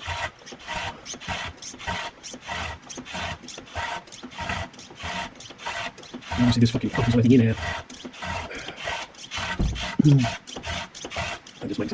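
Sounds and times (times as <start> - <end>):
hand pump rasping strokes: 0.0 - 11.9.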